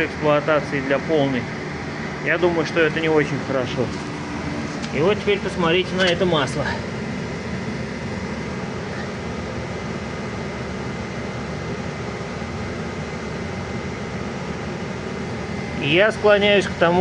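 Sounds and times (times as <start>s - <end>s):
fan whirring hiss: 0.0s - 17.0s.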